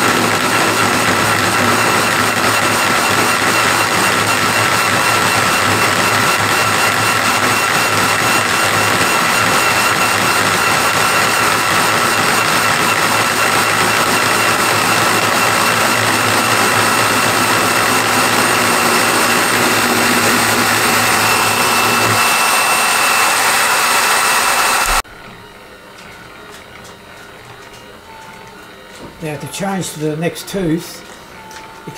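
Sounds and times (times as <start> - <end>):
machining noise: 0.0 - 25.7
milling motor high whine: 0.0 - 30.2.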